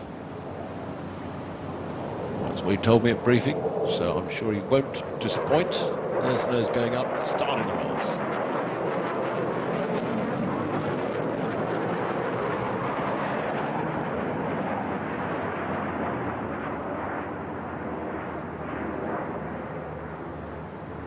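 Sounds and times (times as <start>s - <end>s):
jet engine roaring: 0.0s - 21.0s.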